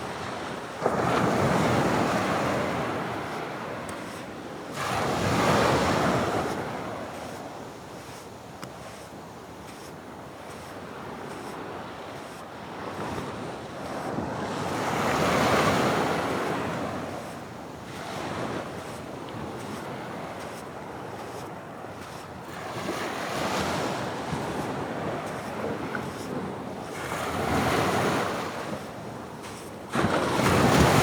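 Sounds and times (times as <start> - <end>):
waves breaking on shore: 0.0 - 31.0.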